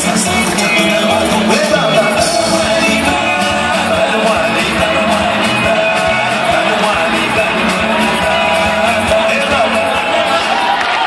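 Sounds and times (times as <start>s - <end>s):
dance music with singing: 0.0s - 11.0s.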